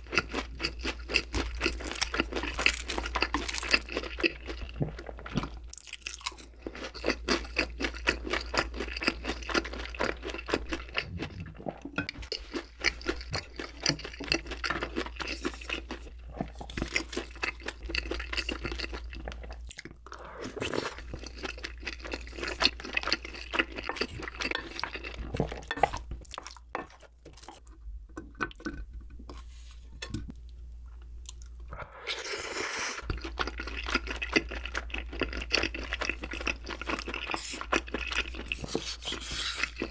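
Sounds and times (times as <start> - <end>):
person chewing wetly: 0.0 - 28.7, 31.0 - 39.9.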